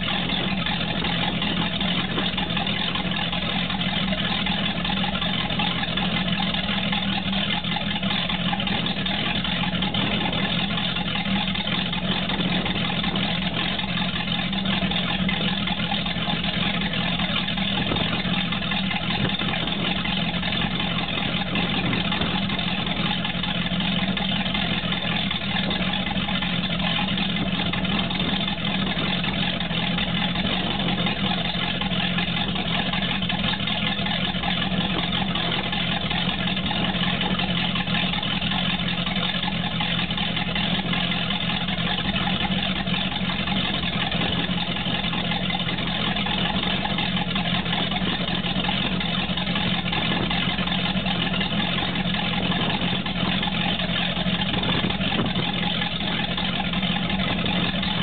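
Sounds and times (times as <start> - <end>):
boat engine idling: 0.0 - 58.0
water splashing: 0.0 - 58.0.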